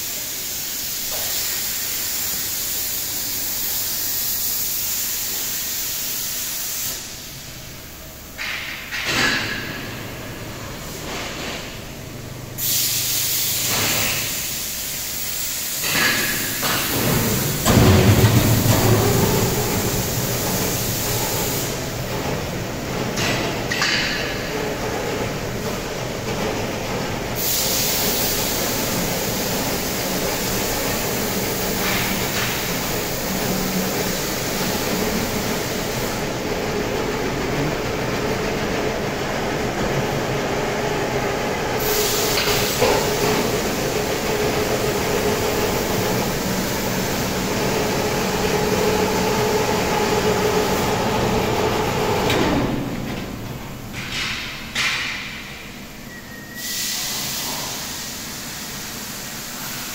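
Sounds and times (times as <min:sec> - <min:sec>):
workshop machinery hiss and rumble: 0:00.0 - 0:59.9.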